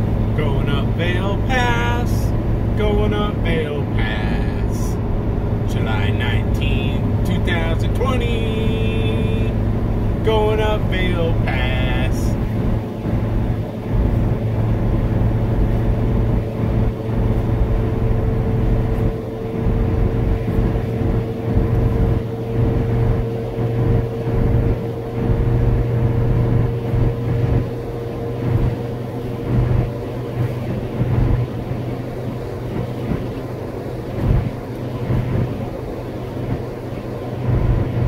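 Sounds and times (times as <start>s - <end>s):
car engine and tyre noise: 0.0s - 38.0s
faint steady whine: 0.0s - 38.0s.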